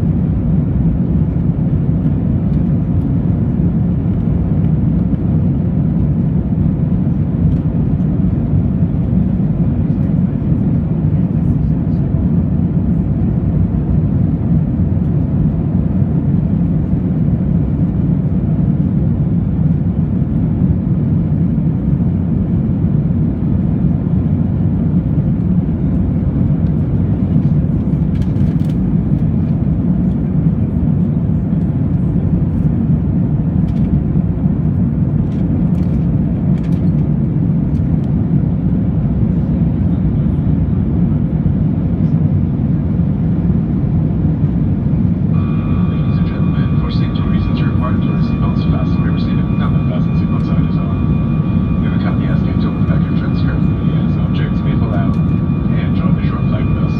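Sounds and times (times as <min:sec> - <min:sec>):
aircraft cabin engine roar: 0:00.0 - 0:56.9.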